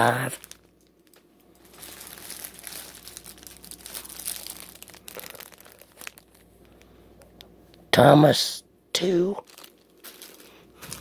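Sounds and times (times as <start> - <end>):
plastic packaging crinkling: 0.0 - 7.4, 9.2 - 11.0.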